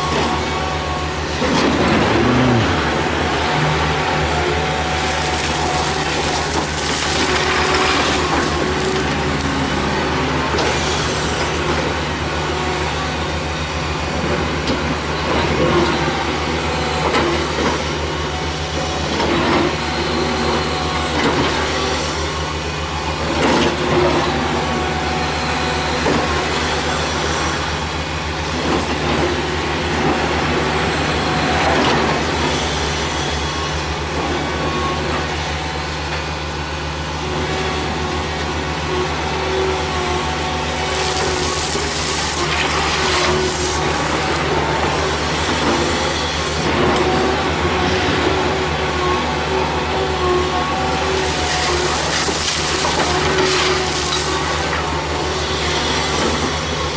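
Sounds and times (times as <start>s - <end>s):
excavator diesel engine humming: 0.0s - 56.9s.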